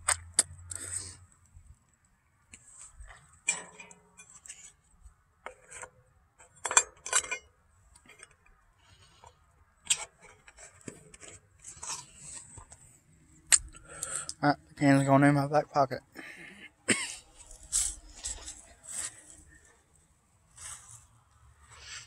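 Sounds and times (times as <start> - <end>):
handling clicks and rustles: 0.0 - 15.3, 16.0 - 22.0.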